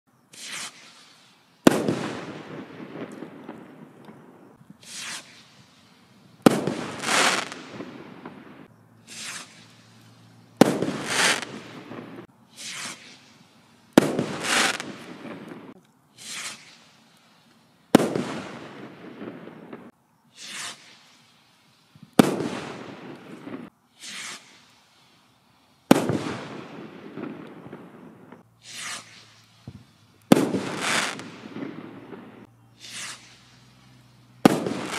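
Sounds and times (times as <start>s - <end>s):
firework rocket hissing up: 0.2s - 34.9s
firework bursting with bang: 0.3s - 17.0s, 17.9s - 21.3s, 22.0s - 24.8s, 25.9s - 34.9s.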